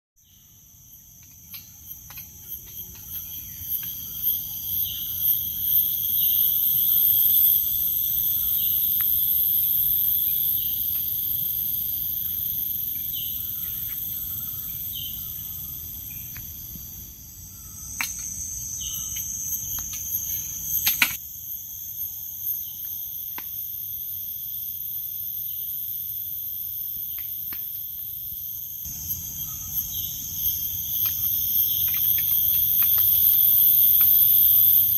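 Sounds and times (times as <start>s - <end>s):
insect chorus buzzing: 0.2s - 34.9s
pulsing insect call: 0.2s - 34.9s.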